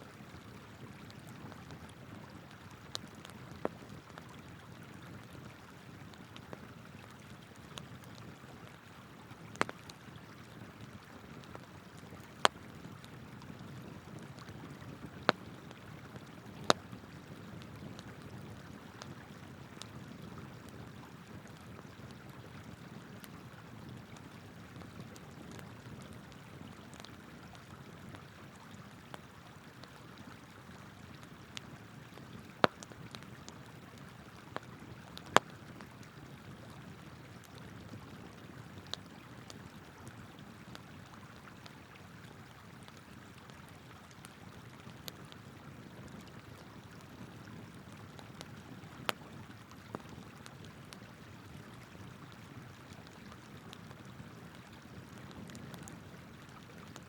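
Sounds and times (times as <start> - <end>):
campfire crackling: 0.1 - 57.0
fire popping: 0.8 - 28.2, 31.0 - 41.2, 42.8 - 52.2, 53.0 - 57.0.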